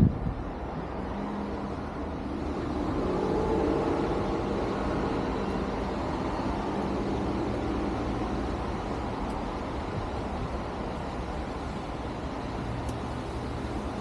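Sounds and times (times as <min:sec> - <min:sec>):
engine hum: 0:00.0 - 0:14.0
road traffic rumble: 0:00.0 - 0:14.0.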